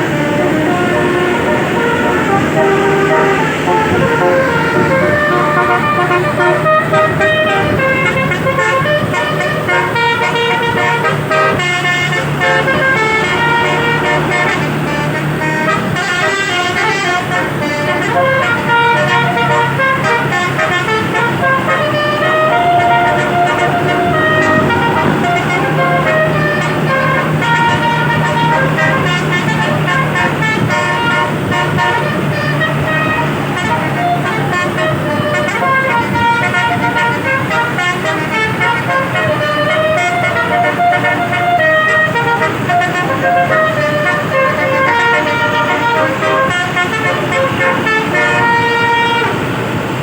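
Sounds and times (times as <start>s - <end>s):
bus engine hum: 0.0s - 50.0s
musical bus horn melody: 0.0s - 50.0s.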